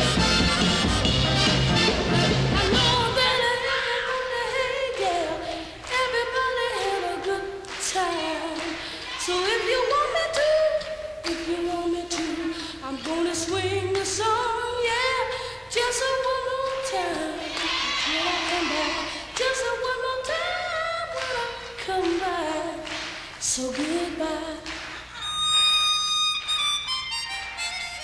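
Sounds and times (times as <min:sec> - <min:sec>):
woman singing with vibrato: 0:02.4 - 0:25.2.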